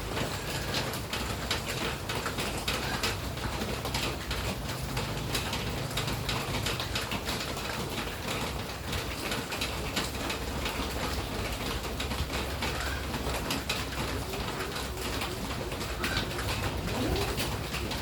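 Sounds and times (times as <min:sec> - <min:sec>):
raindrops striking a surface: 0:00.0 - 0:18.0
steady rain: 0:00.0 - 0:18.0.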